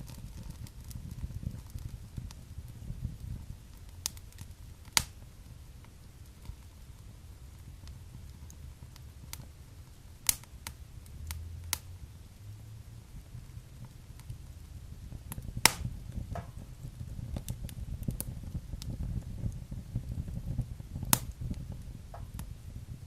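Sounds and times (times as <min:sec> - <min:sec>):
fire crackling in fireplace: 0:00.0 - 0:23.0.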